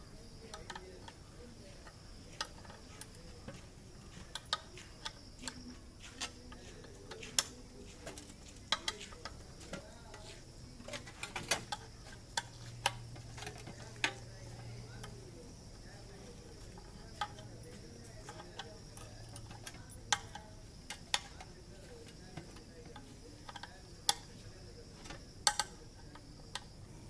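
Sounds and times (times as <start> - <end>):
faint low hum: 0.0 - 27.0
tools clicking and tapping: 0.4 - 26.8.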